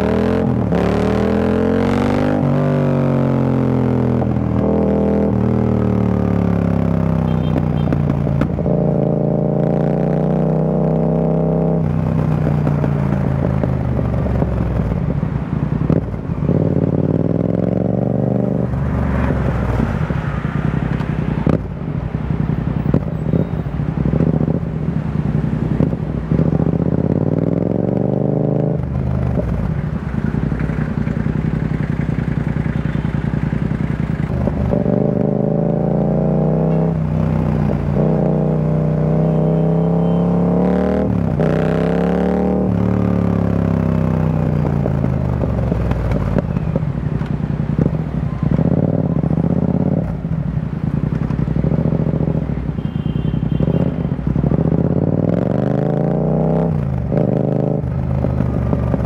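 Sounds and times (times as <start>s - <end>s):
motorcycle exhaust revving: 0.0s - 59.0s.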